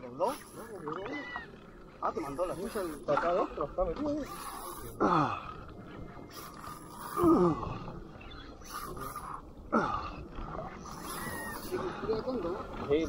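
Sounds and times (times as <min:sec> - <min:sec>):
sea lion calling: 0:00.1 - 0:13.0.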